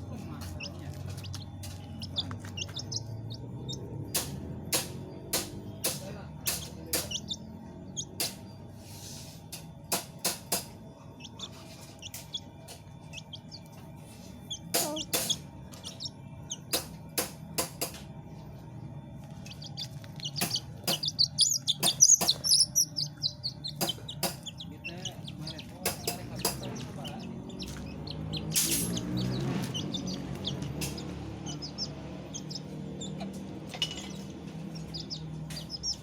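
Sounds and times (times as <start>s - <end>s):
birds chirping: 0.0s - 9.0s, 10.7s - 36.0s
low hum: 0.0s - 36.0s.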